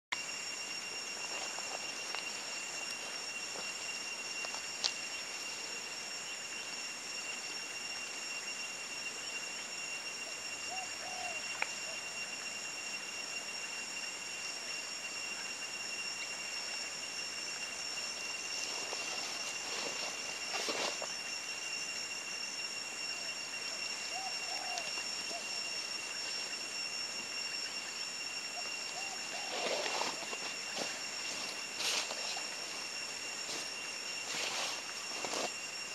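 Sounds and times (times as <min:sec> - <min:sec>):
high-pitched insect drone: 0:00.0 - 0:35.9.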